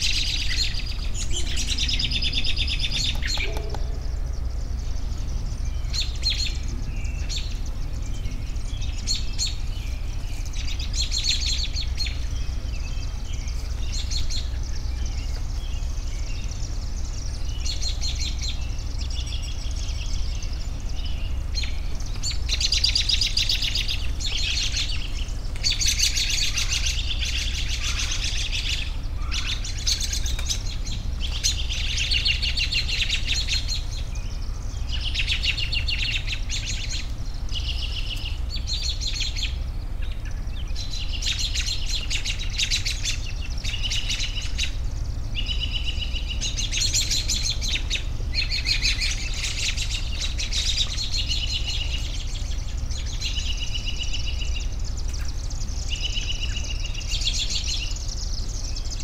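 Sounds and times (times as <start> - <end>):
songbirds singing: 0.0 - 59.0
steady low rumble: 0.0 - 59.0.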